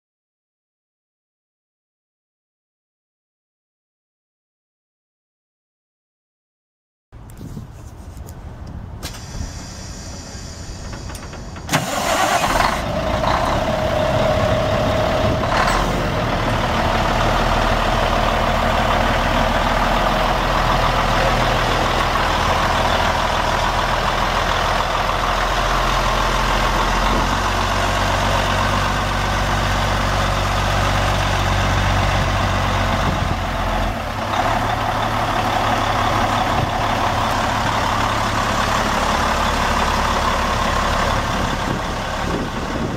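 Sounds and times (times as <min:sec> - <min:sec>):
diesel engine idling: 0:08.4 - 0:42.9
diesel truck engine starting: 0:08.5 - 0:42.9.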